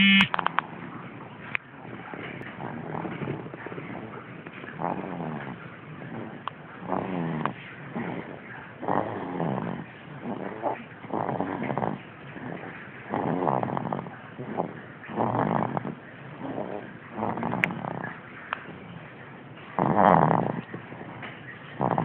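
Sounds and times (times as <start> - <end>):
baby snoring: 1.8 - 18.2, 19.8 - 21.2, 21.8 - 22.0.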